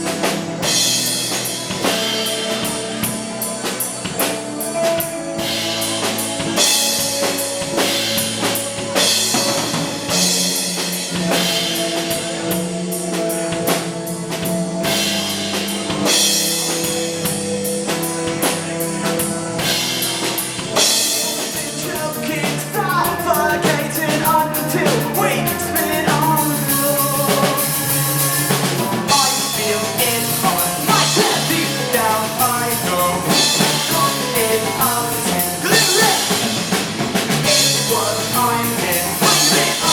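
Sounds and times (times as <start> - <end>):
drum kit beat: 0.0 - 39.9
live rock band playing: 0.0 - 39.9.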